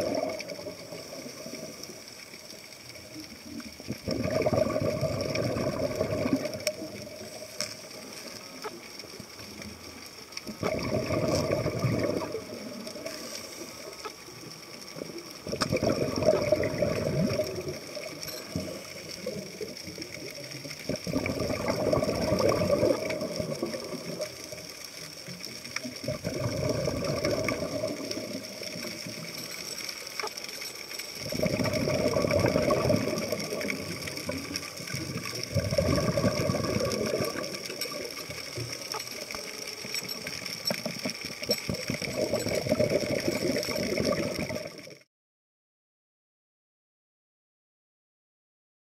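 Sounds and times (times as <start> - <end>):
underwater exhaled bubbles: 0.0 - 45.1.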